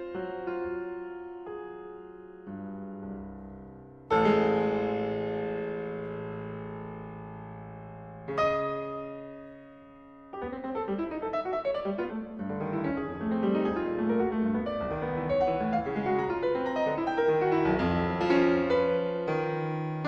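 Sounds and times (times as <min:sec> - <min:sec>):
solo piano: 0:00.0 - 0:20.0.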